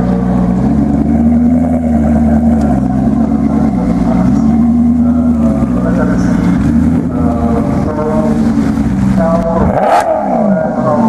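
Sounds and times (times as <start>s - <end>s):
car engine exhaust note: 0.0s - 11.0s.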